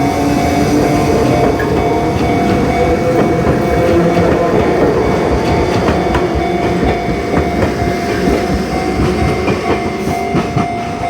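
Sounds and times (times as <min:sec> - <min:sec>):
crossing warning alarm tone: 0:00.0 - 0:11.0
train wheels clacking over rail joints: 0:00.0 - 0:11.0.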